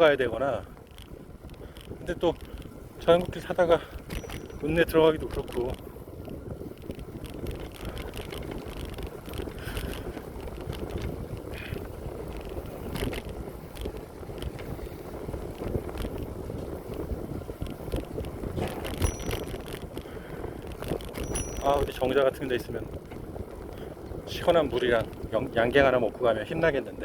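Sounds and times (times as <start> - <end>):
bicycle tyres rolling: 0.0 - 27.0
bike clicks and rattles: 0.0 - 27.0
wind rush on microphone: 0.0 - 27.0.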